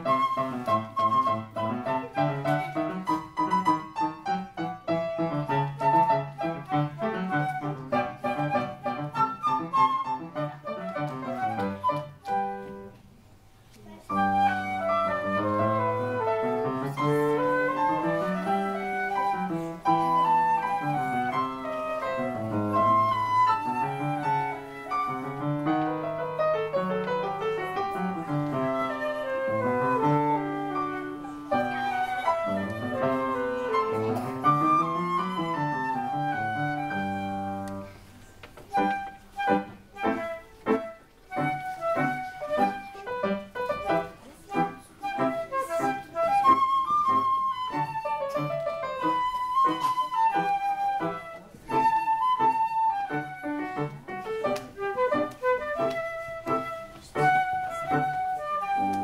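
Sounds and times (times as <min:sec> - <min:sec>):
flute and piano duet: 0:00.0 - 0:59.0.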